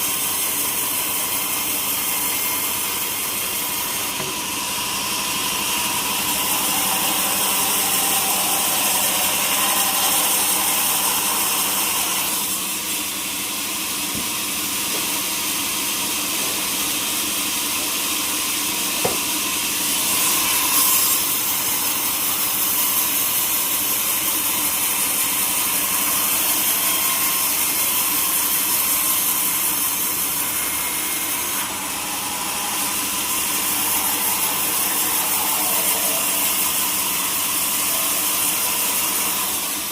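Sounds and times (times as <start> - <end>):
sawmill saw cutting a log: 0.0 - 39.9.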